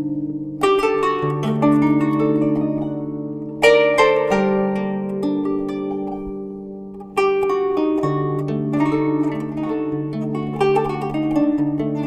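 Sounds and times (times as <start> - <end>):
plucked zither notes: 0.0 - 12.0.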